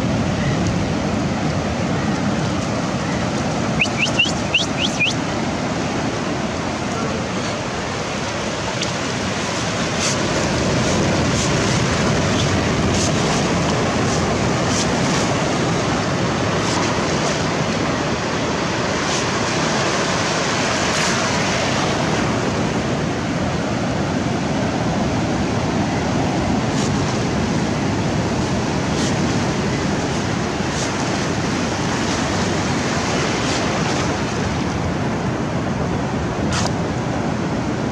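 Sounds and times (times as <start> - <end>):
ocean surf washing on beach: 0.0 - 37.9.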